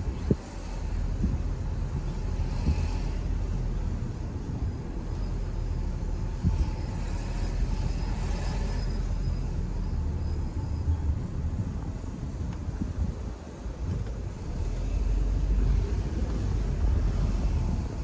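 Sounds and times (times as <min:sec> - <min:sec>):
car driving along street: 0:00.0 - 0:18.0.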